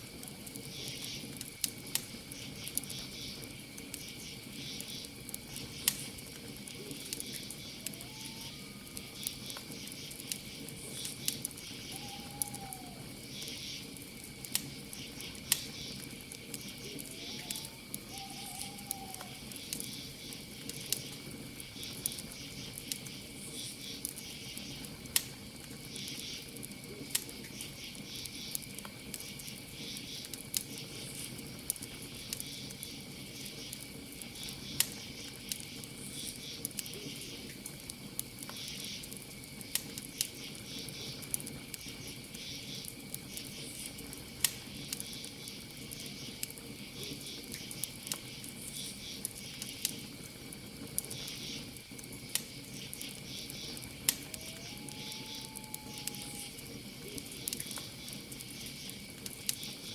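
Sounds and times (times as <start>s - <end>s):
campfire crackling and popping: 0.0s - 59.9s
crickets chirping: 0.0s - 59.9s.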